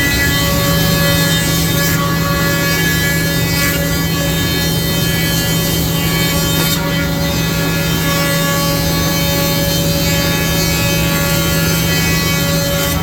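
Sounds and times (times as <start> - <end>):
wood planer cutting boards: 0.0 - 13.0.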